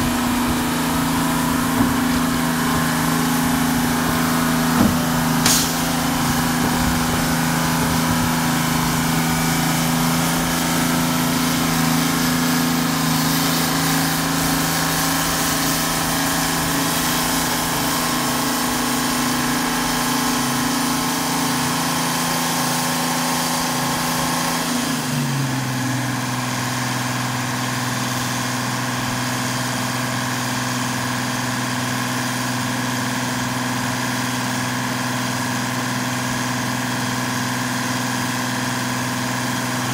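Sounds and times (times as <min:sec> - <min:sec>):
crane engine running: 0:00.0 - 0:39.9.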